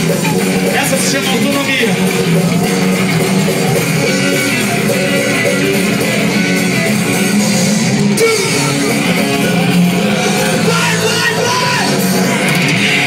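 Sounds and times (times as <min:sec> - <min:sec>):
drums: 0:00.0 - 0:13.0
electric guitar: 0:00.0 - 0:13.0
punk band playing: 0:00.0 - 0:13.0.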